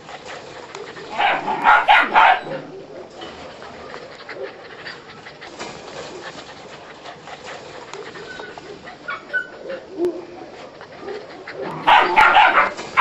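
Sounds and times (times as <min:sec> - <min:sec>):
puppies playing: 0:00.0 - 0:13.0
puppies barking: 0:00.3 - 0:13.0.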